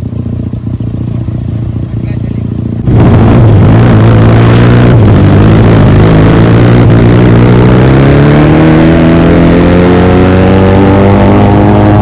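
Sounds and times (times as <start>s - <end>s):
motorcycle with loud exhaust: 0.0s - 12.0s.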